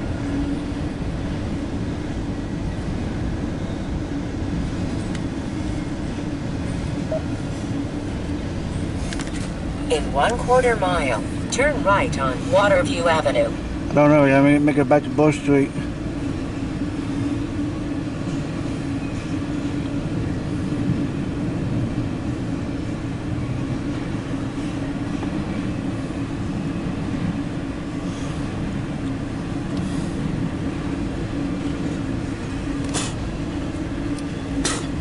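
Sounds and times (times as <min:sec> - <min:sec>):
road and engine noise in car: 0:00.0 - 0:35.0.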